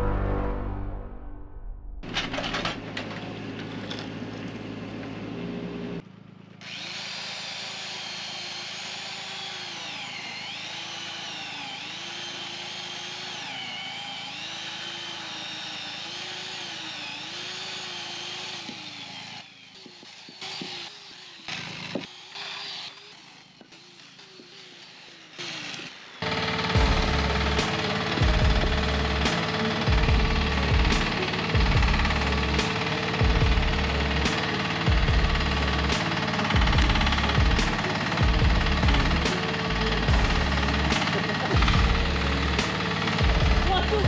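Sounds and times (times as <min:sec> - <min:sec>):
power saw cutting: 0:02.0 - 0:44.0.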